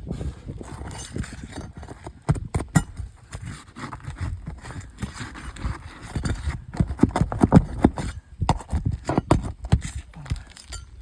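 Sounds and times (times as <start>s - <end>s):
flat bar prying shingles: 0.8s - 11.0s.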